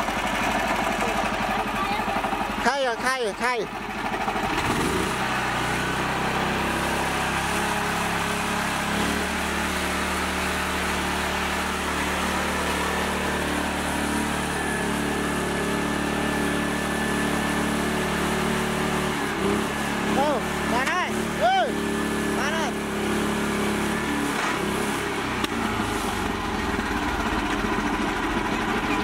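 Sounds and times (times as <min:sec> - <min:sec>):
small tractor engine running: 0:00.0 - 0:29.0.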